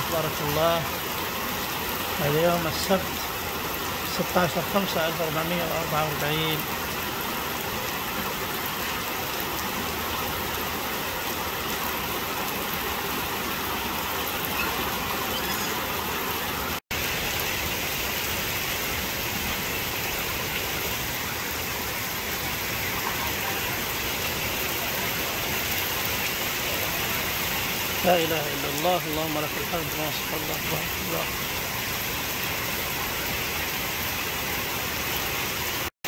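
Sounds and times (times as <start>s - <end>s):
heavy rain on foliage and paving: 0.0s - 35.9s.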